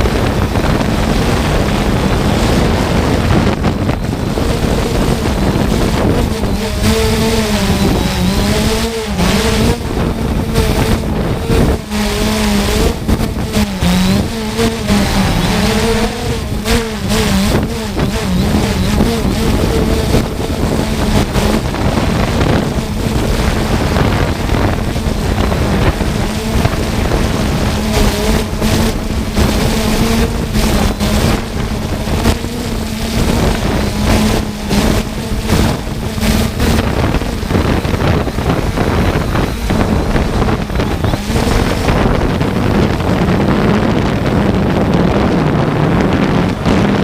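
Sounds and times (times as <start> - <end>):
drone propellers humming: 0.0 - 47.0
wind buffeting the microphone: 0.0 - 47.0.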